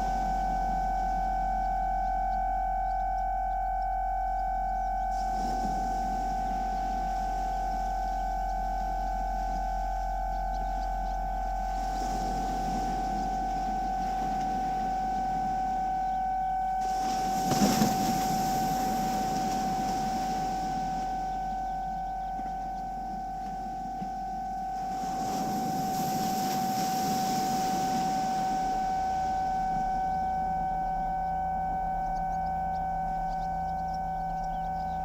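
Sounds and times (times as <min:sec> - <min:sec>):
high synthesizer drone: 0:00.0 - 0:35.0
low synthesizer pulse: 0:00.0 - 0:35.0
lower synthesizer tone: 0:00.0 - 0:35.0
synthesizer noise swells: 0:00.0 - 0:35.0.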